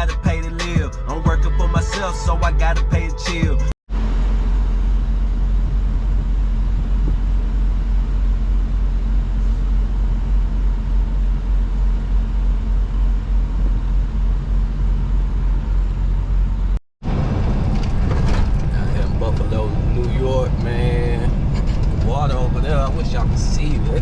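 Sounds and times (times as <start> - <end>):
truck engine drone: 0.0 - 24.0
road noise: 3.9 - 24.0.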